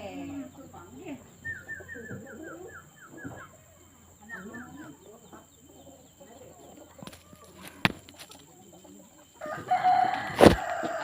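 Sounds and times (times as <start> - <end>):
chickens calling: 0.0 - 11.0
doves calling: 0.0 - 11.0.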